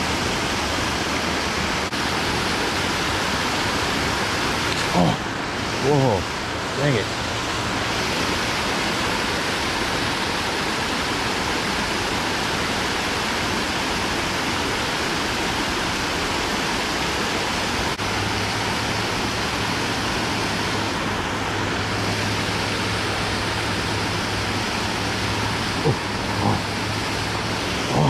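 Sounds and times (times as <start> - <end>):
water rushing over spillway: 0.0 - 28.0.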